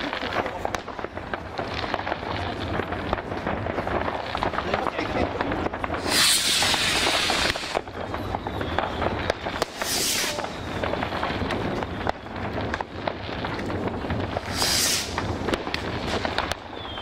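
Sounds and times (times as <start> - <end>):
firework hiss: 0.0 - 17.0
fireworks pops and bangs: 0.0 - 17.0.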